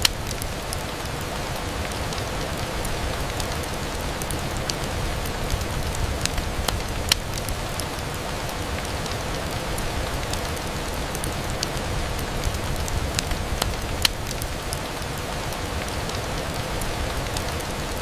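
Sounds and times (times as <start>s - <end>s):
rain on a window: 0.0s - 18.0s.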